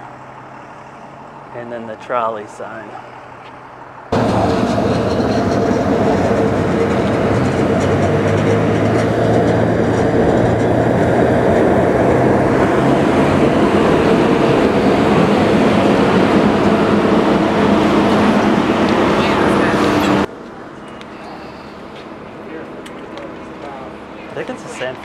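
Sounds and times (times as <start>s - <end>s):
electric streetcar humming: 0.0s - 25.0s
wheels rolling on rails: 4.2s - 25.0s.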